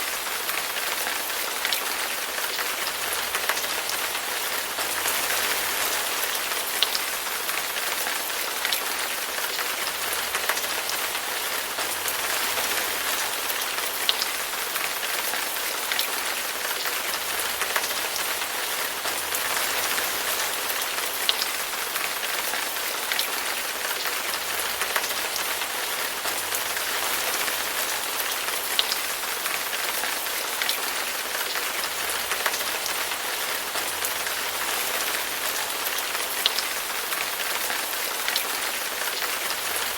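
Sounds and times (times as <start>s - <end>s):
rain drops ticking: 0.0s - 39.9s
steady rain hiss: 0.0s - 39.9s.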